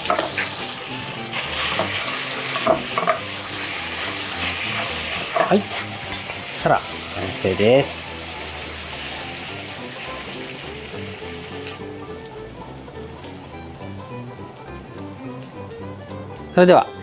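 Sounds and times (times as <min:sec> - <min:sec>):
food sizzling in a wok: 0:00.0 - 0:16.5
light background music: 0:00.0 - 0:17.0.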